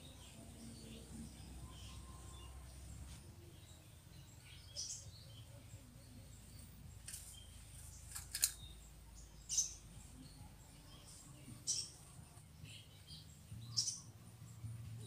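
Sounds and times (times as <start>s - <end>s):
birds chirping: 0.0s - 15.0s
faint forest background: 0.0s - 15.0s.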